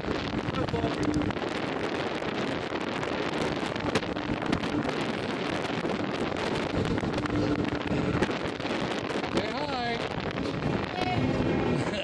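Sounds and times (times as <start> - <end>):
fairground ride rattling: 0.0 - 12.0
wind rushing over microphone: 0.0 - 12.0.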